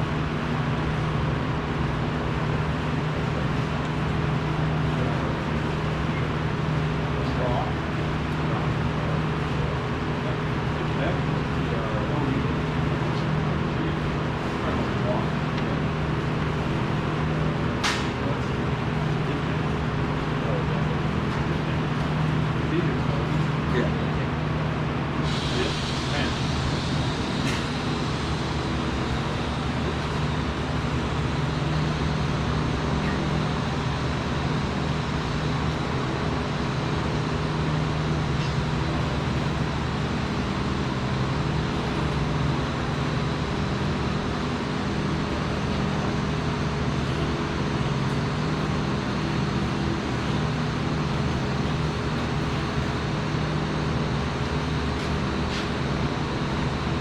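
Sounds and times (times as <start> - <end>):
machinery drone: 0.0 - 57.0.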